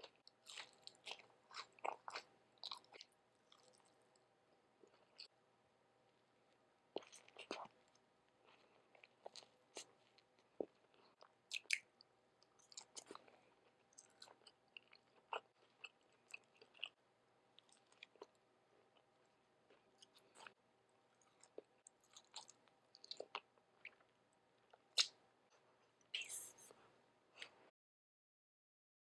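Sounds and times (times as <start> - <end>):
person chewing food: 0.0 - 5.4, 6.5 - 17.0, 17.6 - 27.7.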